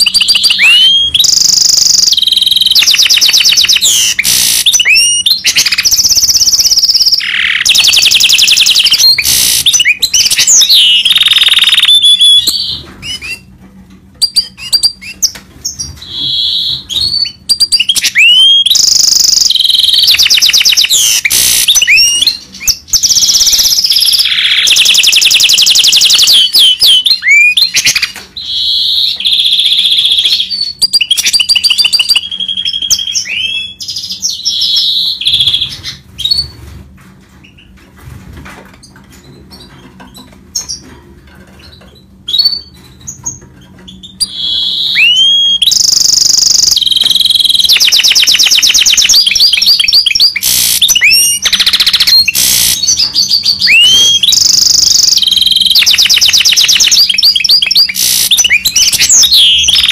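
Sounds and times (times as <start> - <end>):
finch singing trills and whistles: 0.0 - 13.5, 14.2 - 36.6, 42.3 - 59.9.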